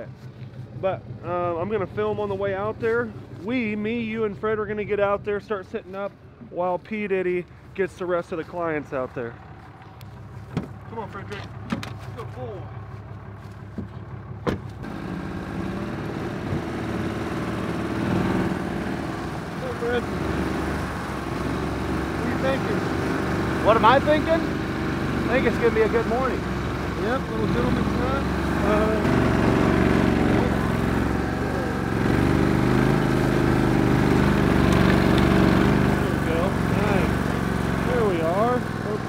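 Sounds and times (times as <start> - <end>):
pickup truck engine idling: 7.4 - 39.0.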